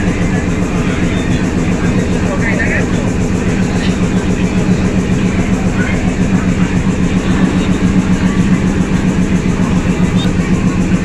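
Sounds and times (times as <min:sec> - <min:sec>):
crowd chatter: 0:00.0 - 0:11.0
diesel locomotive idling: 0:00.0 - 0:11.0.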